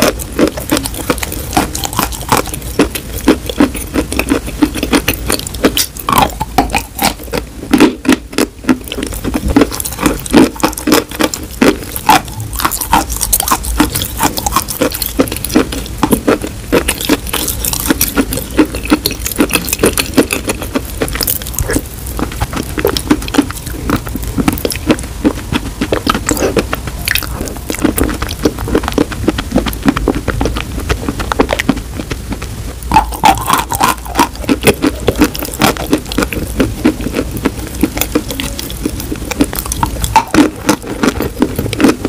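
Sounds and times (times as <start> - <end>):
chewing with sticky mouth clicks: 0.0 - 42.0.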